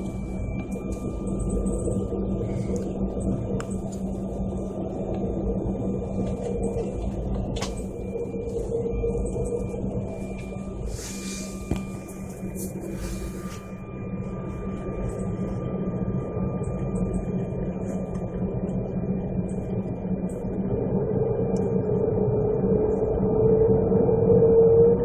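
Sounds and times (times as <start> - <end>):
airliner engines humming: 0.0 - 25.0.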